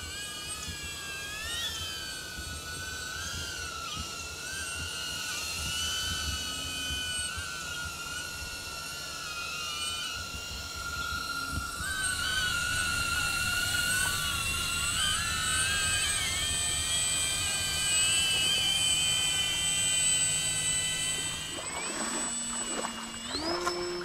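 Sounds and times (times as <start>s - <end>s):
drone propellers whining: 0.0s - 24.0s.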